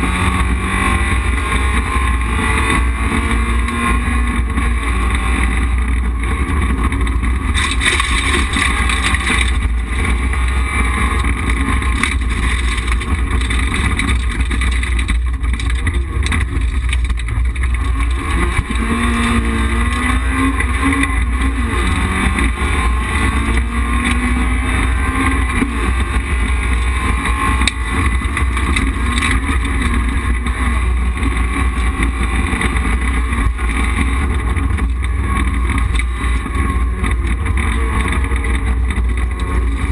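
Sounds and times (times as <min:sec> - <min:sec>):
low road and mechanical drone: 0:00.0 - 0:39.9
rally car engine revving: 0:00.0 - 0:39.9.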